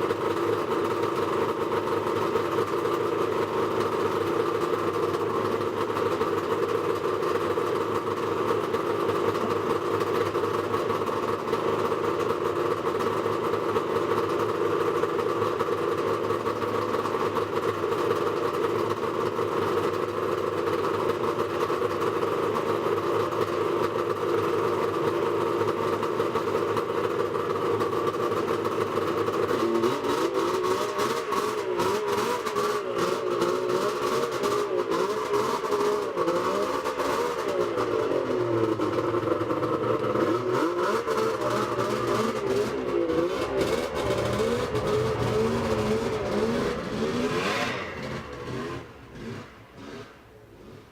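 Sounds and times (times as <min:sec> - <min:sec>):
two-stroke engine idling: 0:00.0 - 0:50.9.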